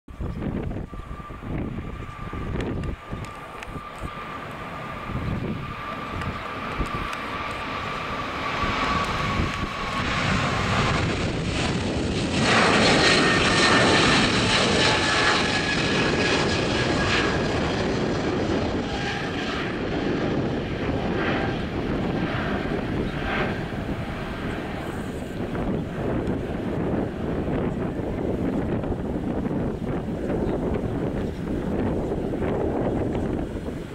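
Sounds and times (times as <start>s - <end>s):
jet engine roar: 0.1s - 33.9s.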